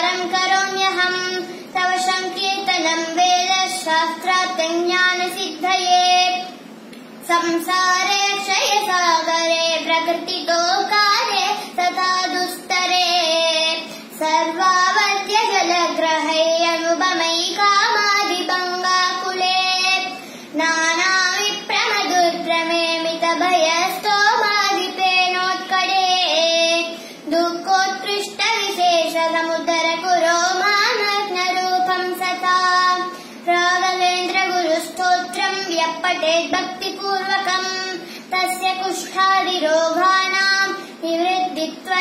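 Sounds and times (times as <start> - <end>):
boy chanting a hymn: 0.0 - 42.0.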